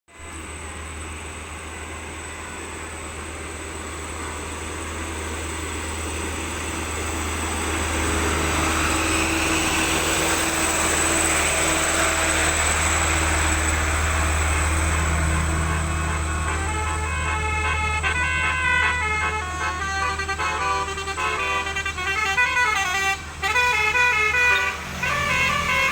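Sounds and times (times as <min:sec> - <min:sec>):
bus engine rumble: 0:00.1 - 0:25.9
road noise: 0:00.1 - 0:25.9.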